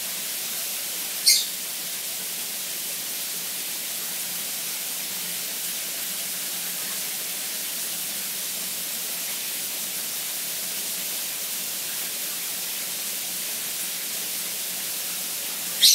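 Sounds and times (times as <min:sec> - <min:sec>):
shower spraying water on tiles: 0:00.0 - 0:15.9.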